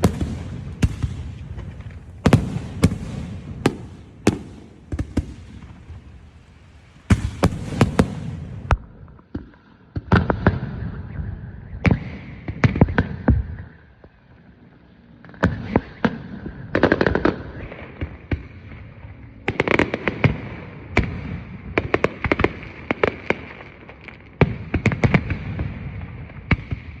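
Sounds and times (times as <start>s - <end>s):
fireworks bangs and crackles: 0.0s - 14.2s, 15.2s - 27.0s.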